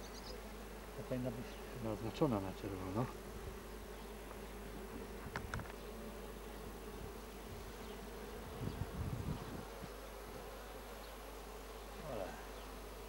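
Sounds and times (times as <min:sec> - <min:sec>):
honeybees humming: 0:00.0 - 0:13.0.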